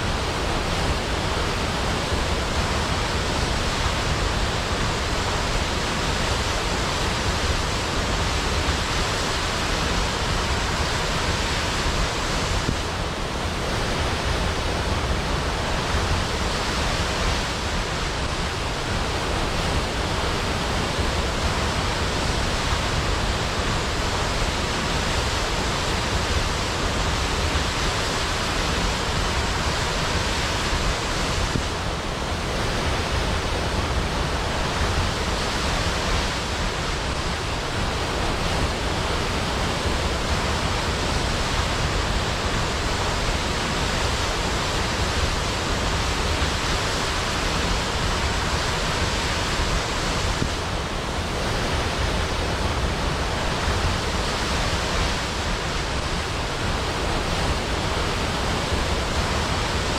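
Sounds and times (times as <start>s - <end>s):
large waterfall crashing: 0.0s - 59.9s.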